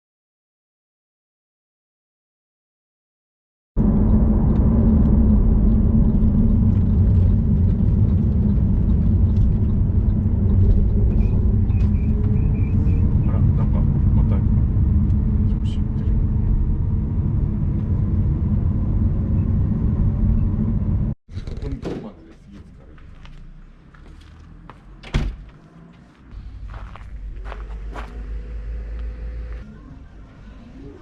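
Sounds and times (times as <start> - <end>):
car engine droning: 3.8 - 21.2, 22.5 - 31.0.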